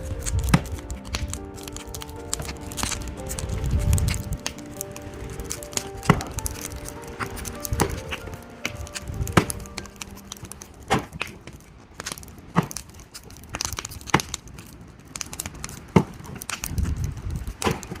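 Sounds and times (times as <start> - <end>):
small clicks and rustles: 0.0 - 18.0.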